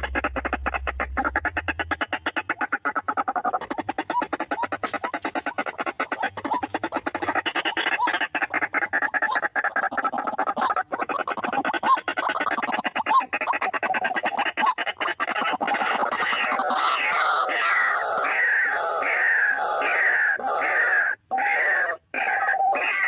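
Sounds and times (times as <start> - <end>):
waterhen croaking calls: 0.0 - 23.0.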